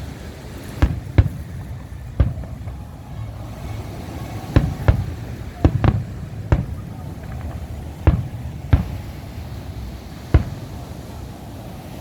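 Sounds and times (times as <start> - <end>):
fireworks exploding with echo: 0.3 - 11.6
low steady rumble: 0.6 - 11.8.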